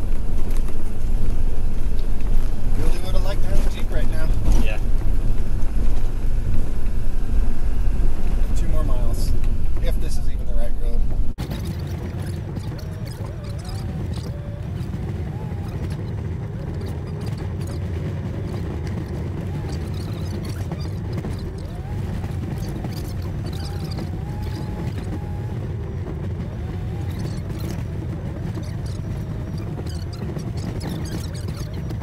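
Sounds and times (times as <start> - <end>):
truck engine rumble: 0.0 - 32.0.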